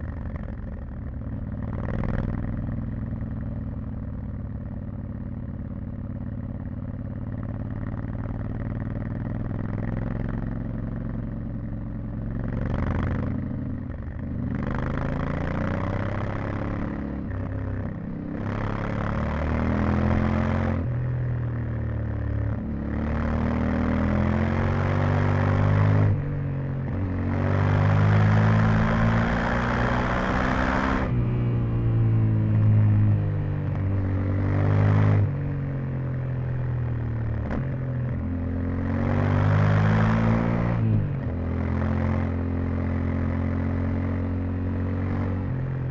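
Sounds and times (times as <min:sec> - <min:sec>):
motorcycle engine revving: 0:00.0 - 0:05.2, 0:07.1 - 0:45.9.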